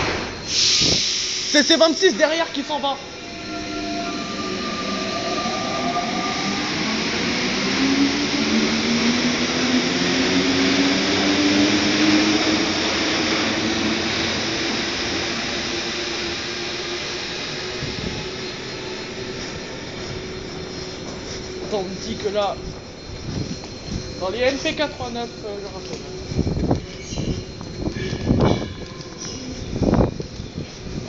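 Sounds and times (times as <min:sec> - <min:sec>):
train rushing noise: 0:00.0 - 0:31.0
train traction motors whining: 0:00.0 - 0:31.0.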